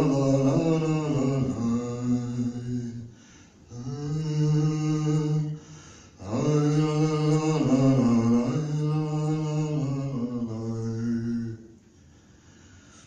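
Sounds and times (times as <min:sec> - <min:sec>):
man chanting in held notes: 0:00.0 - 0:11.8.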